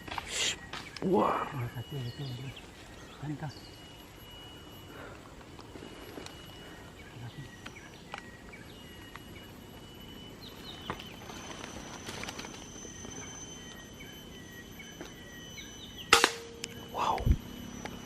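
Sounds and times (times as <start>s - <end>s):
falling insect chirps: 0.0s - 18.0s
insects trilling: 0.0s - 18.0s.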